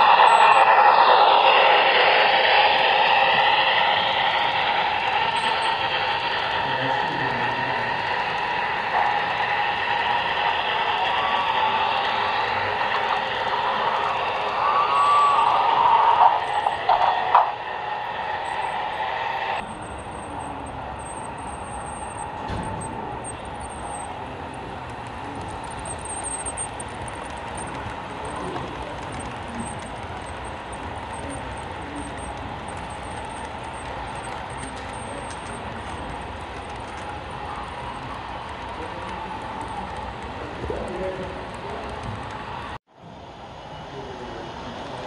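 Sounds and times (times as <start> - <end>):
model train wheels rolling on rail: 0.0 - 42.8.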